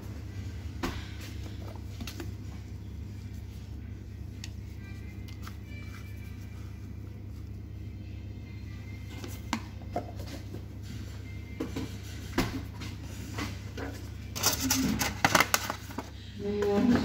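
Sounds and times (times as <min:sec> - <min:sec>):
low hum: 0:00.0 - 0:14.3.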